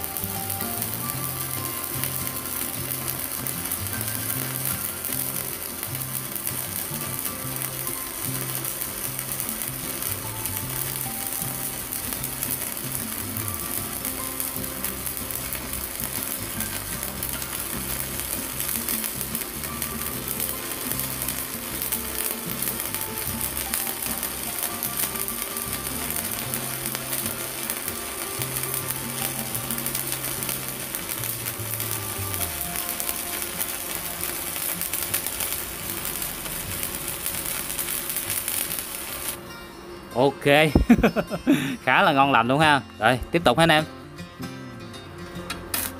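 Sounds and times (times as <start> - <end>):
arc welding crackling sizzle: 0.0 - 44.5, 45.2 - 45.9.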